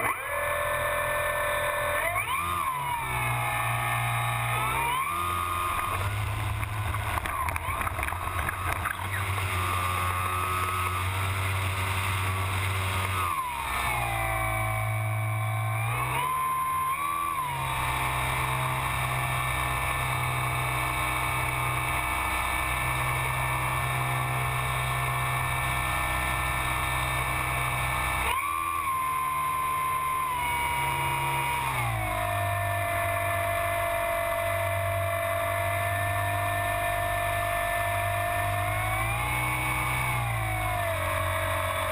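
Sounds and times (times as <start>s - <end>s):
electric model plane motor whine: 0.0s - 41.9s.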